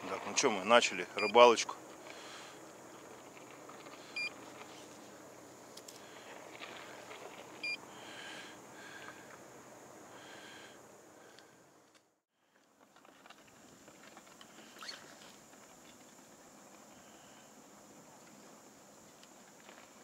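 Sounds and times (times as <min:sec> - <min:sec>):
faint open-air ambience: 0:00.0 - 0:20.0.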